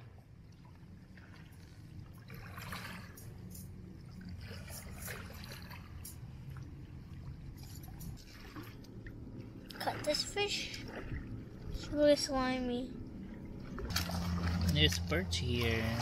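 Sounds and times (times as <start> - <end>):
low steady rumble: 0.0 - 16.0
small water splashes and trickles: 0.0 - 16.0.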